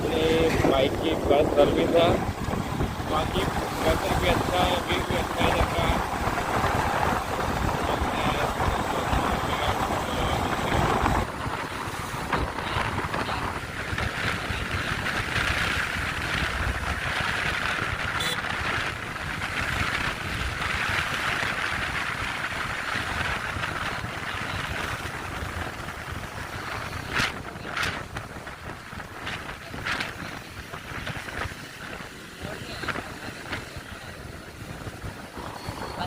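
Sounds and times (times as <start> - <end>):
road and vehicle noise: 0.0 - 36.0
wind rushing over microphone: 0.0 - 36.0.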